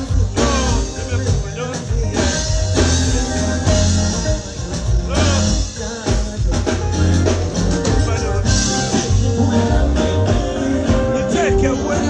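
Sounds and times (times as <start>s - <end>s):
loud music with heavy bass: 0.0s - 12.0s
person singing: 0.0s - 12.0s.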